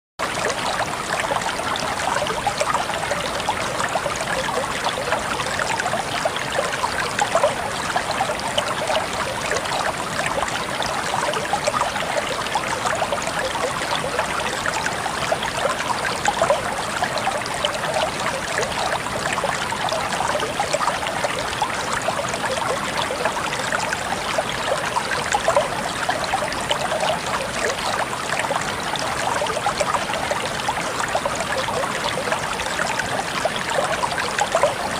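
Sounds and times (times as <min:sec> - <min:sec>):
stream burbling: 0:00.2 - 0:34.9.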